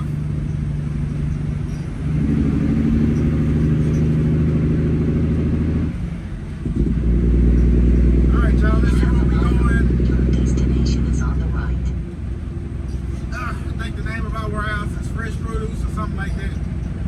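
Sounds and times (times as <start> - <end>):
truck diesel engine driving: 0.0 - 17.0.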